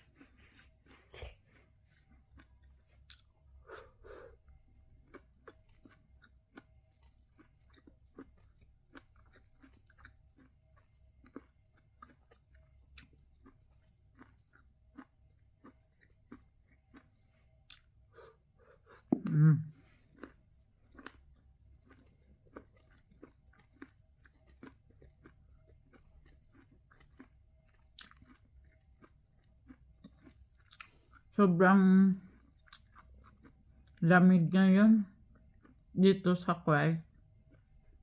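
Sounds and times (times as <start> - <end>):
chewing corn on the cob: 0.0 - 19.2, 19.9 - 31.4, 32.2 - 34.0, 35.0 - 36.0, 37.0 - 38.0.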